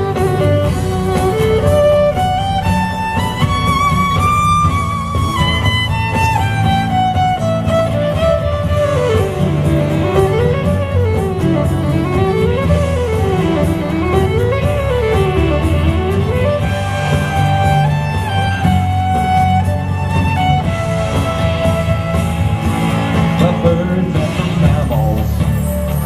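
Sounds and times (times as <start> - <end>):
fiddle melody: 0.0 - 26.0
low steady accompaniment: 0.0 - 26.0.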